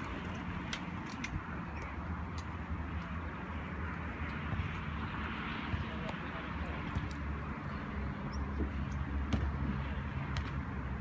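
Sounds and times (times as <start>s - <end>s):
continuous low rumble: 0.0s - 11.0s.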